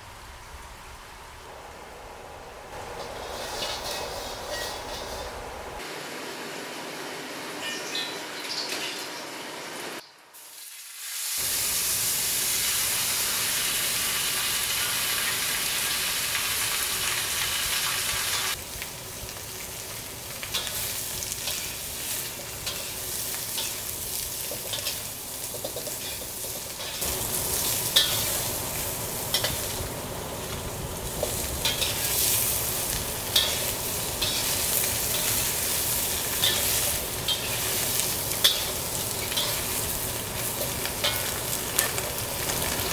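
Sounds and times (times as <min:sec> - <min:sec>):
pork sizzling in hot oil: 0:07.9 - 0:42.9.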